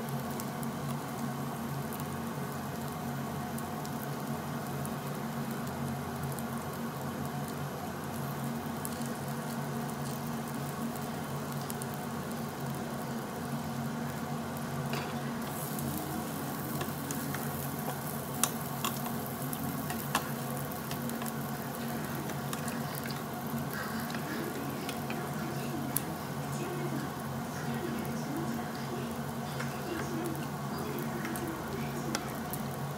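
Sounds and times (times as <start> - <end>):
meat sizzling on a grill: 0.0 - 32.9.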